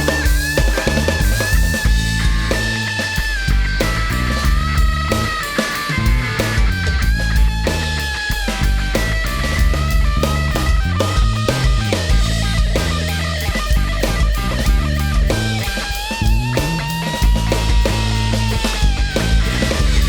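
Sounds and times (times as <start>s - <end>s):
bass line: 0.0s - 20.0s
drums steady beat: 0.0s - 20.0s
lead melody with bending notes: 0.0s - 20.0s.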